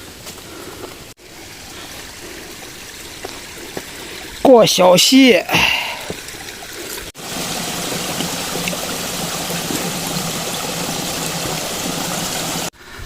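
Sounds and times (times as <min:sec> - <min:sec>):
mountain stream rushing: 0:01.2 - 0:12.7.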